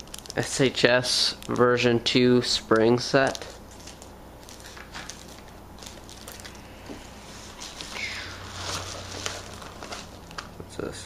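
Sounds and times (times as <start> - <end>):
bubble mailer rustling: 0.0 - 10.7.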